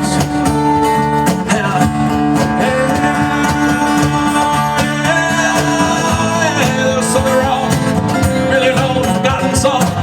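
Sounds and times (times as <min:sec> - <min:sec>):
electric guitar: 0:00.0 - 0:10.0
live country-rock band playing: 0:00.0 - 0:10.0
person singing: 0:01.3 - 0:10.0.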